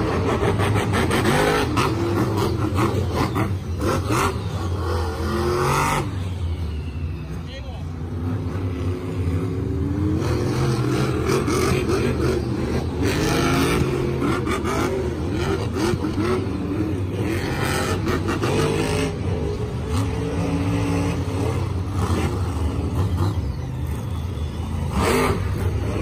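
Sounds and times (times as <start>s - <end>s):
loud rushes of noise: 0.0s - 26.0s
monster truck engines revving: 0.0s - 26.0s.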